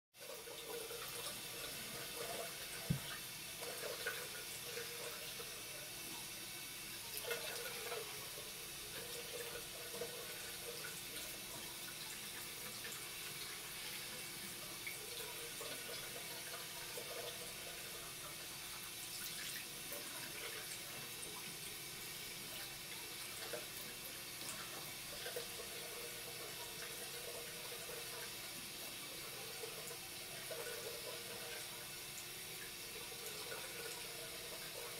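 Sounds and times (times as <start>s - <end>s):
tap water running into basin: 0.2s - 34.9s.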